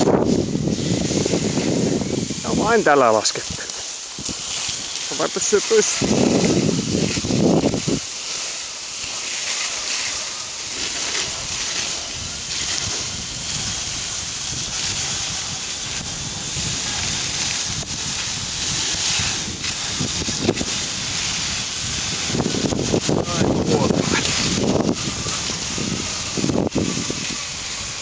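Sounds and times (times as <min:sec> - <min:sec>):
wind buffeting microphone: 0:00.0 - 0:08.1, 0:09.8 - 0:28.0
skis hissing over snow: 0:00.0 - 0:28.0.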